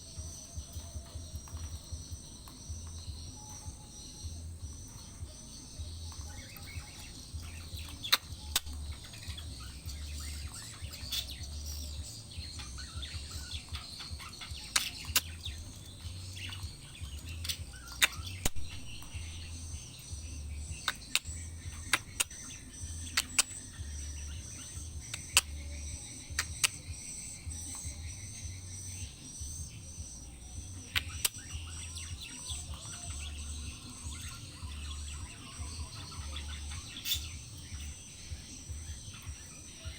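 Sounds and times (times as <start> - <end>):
high-pitched insect drone: 0.0 - 39.9
parakeet calls: 0.0 - 39.9.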